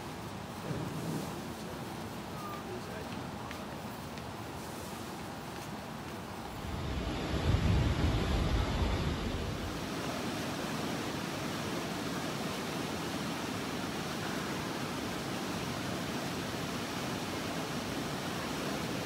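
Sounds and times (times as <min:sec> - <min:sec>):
railway platform ambience: 0:00.0 - 0:19.0.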